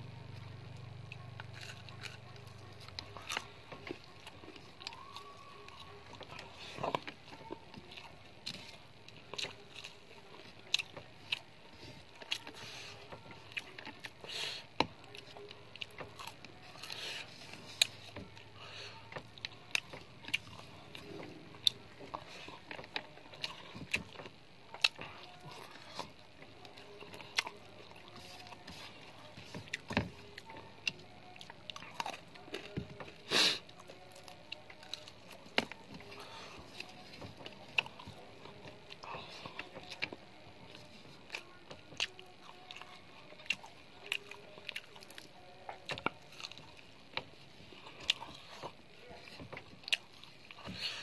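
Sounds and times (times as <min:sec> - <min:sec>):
chewing: 0:00.0 - 0:51.0.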